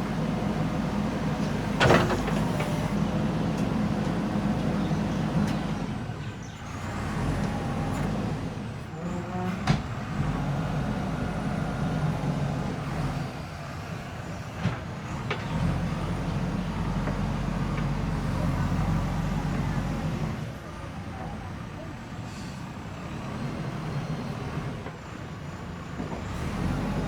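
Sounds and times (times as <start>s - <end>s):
backhoe diesel engine running: 0.0s - 27.0s.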